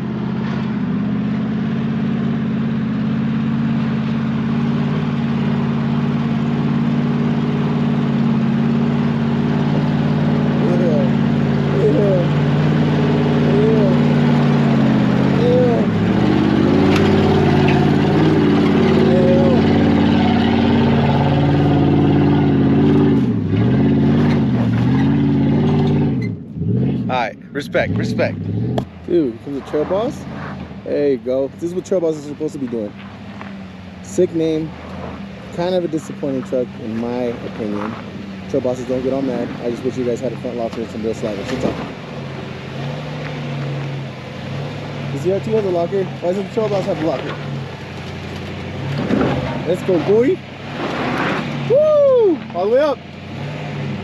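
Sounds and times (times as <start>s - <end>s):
pickup engine working hard: 0.0s - 54.0s.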